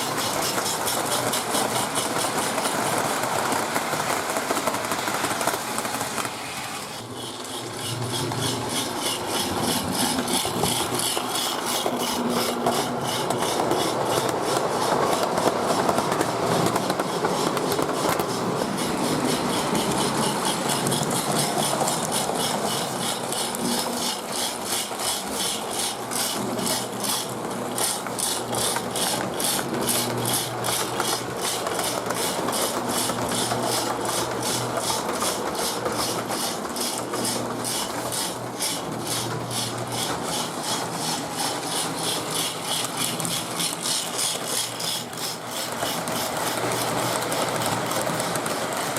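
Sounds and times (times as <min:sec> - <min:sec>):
toy train rasping chuff: 0:00.0 - 0:48.9
wheels rolling on track: 0:00.0 - 0:48.9.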